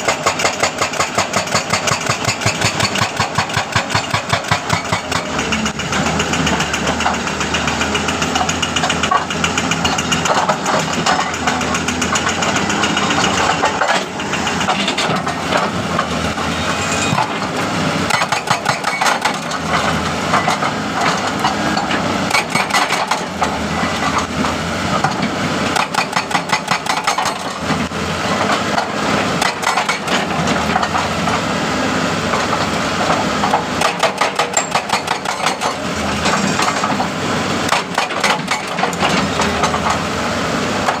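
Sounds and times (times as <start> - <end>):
jackhammer hammering: 0.0 - 16.3, 18.0 - 24.2, 25.7 - 27.6, 28.5 - 31.4, 33.1 - 40.0
engine running: 0.0 - 41.0.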